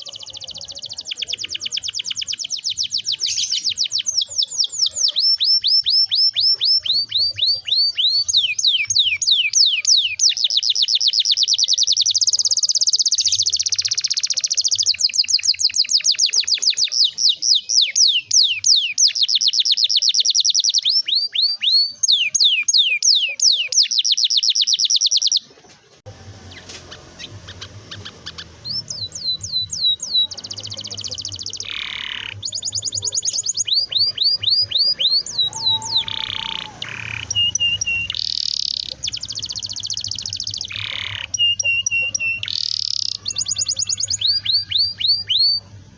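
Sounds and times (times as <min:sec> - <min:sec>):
background noise: 0:00.0 - 0:45.9
canary singing: 0:00.0 - 0:45.9.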